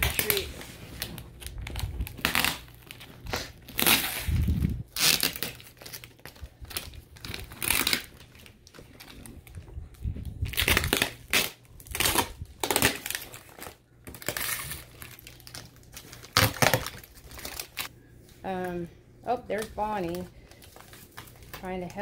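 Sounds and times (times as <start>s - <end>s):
plastic film crinkling: 0.0s - 17.9s, 19.5s - 22.0s.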